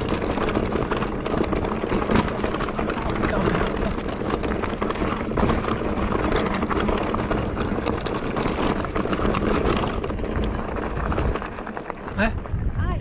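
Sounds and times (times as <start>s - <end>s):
bike tyres rumbling over stones: 0.0s - 13.0s.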